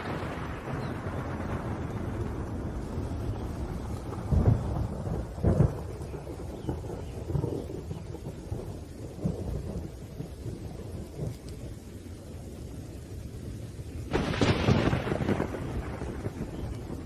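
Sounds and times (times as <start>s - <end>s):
loud thunderclap: 0.0s - 11.8s, 14.0s - 17.0s
low thunder rumbling: 0.0s - 17.0s
rain: 0.0s - 17.0s.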